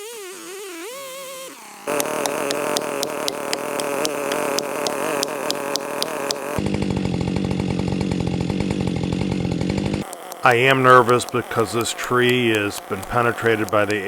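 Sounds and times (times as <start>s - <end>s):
chainsaw running: 0.0s - 14.0s.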